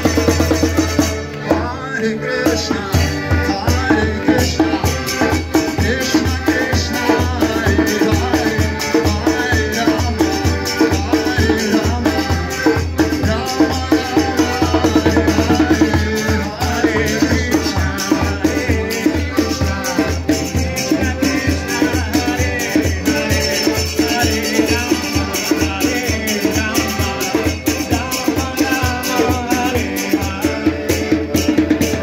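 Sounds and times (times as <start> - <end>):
accordion chords: 0.0 - 32.0
man singing: 1.3 - 32.0
hand drum beating: 2.5 - 32.0.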